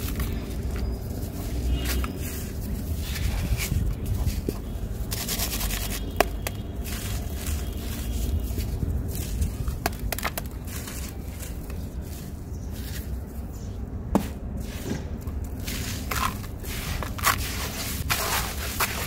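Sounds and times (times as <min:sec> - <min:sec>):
hands crushing gritty chunks in water: 0:00.0 - 0:13.4, 0:14.2 - 0:19.0
steady low rumble: 0:00.0 - 0:18.9.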